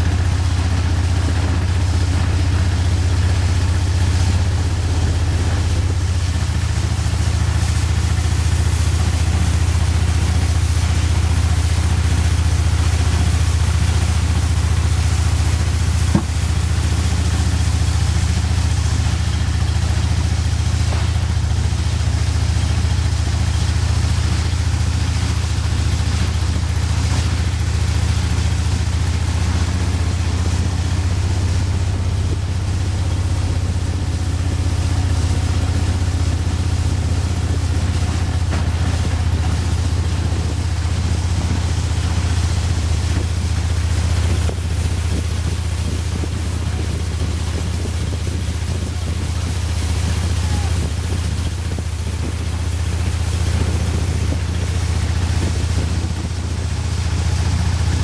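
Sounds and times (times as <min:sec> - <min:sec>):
boat engine drone: 0:00.0 - 0:58.0
water and wind hiss: 0:00.0 - 0:58.0.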